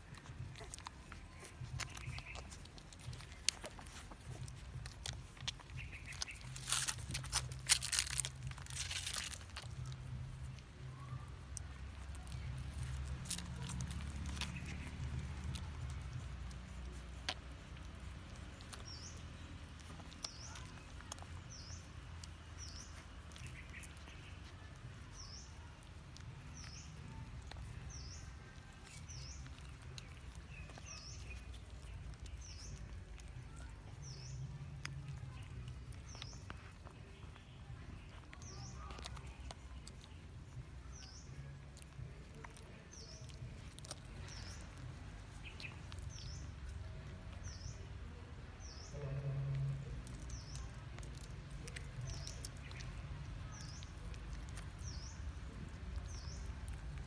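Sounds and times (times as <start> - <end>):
low background rumble: 0.0 - 57.0
puppies suckling with smacking clicks: 0.0 - 57.0
small bird chirping: 0.0 - 57.0.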